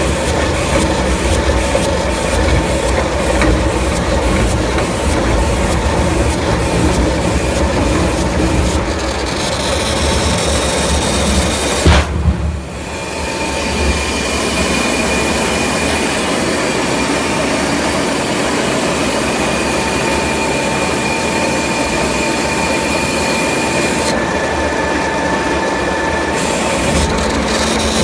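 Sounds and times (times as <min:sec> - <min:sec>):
lathe running with high whine: 0:00.0 - 0:11.9, 0:12.6 - 0:28.0.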